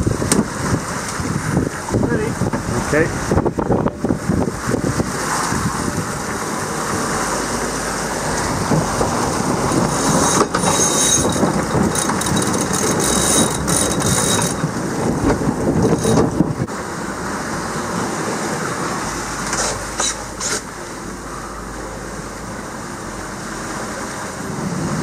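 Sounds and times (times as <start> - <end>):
wind and rushing water: 0.0 - 25.0.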